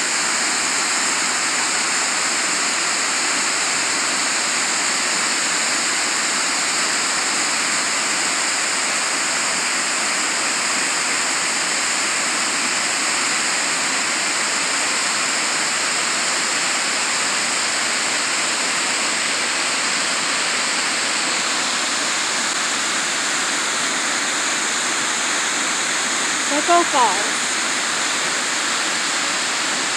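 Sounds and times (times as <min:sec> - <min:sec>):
waterfall splashing over rocks: 0:00.0 - 0:29.9.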